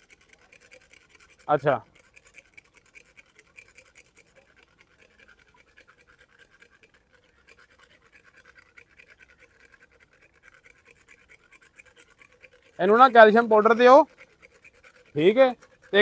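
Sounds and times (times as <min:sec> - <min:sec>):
tooth rasp scraping: 0:00.0 - 0:16.0.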